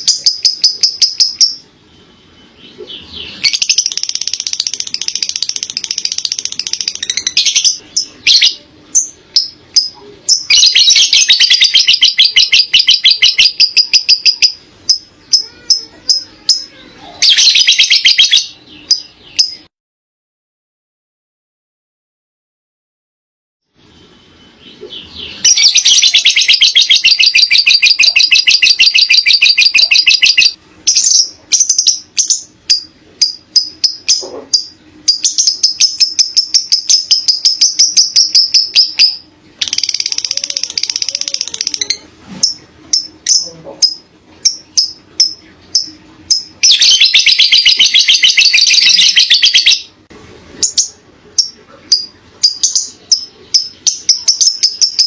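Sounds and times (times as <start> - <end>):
lovebird chattering trill: 0.0 - 1.7, 2.3 - 19.7, 24.5 - 50.0, 50.6 - 55.0.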